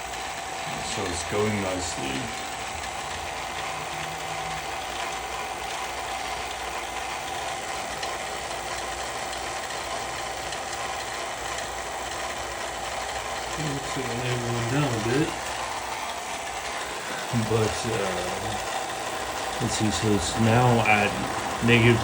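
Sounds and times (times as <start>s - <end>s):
vacuum pump rattling: 0.0s - 22.0s.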